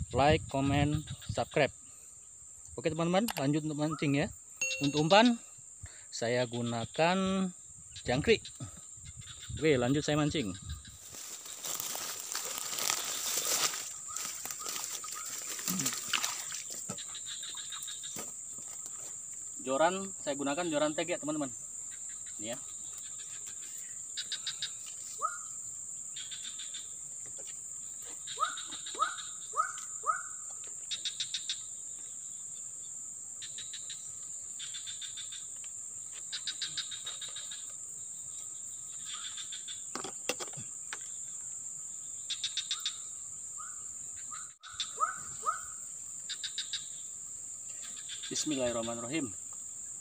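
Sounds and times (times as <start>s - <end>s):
insect pulsed chirps: 0.0s - 50.0s
insects droning: 0.0s - 50.0s.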